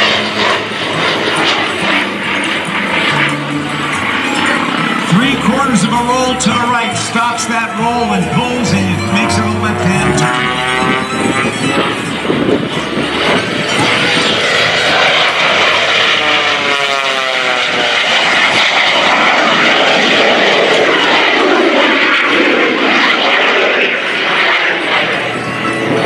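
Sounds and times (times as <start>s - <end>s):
aircraft engine and jet roar: 0.0s - 26.0s
propeller tone falling in pitch: 0.0s - 26.0s.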